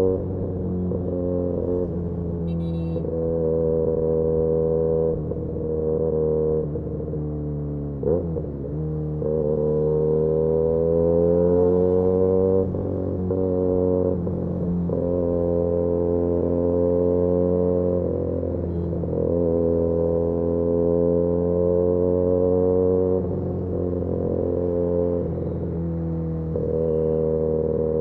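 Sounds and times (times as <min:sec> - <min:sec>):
motorcycle engine droning exhaust: 0:00.0 - 0:28.0.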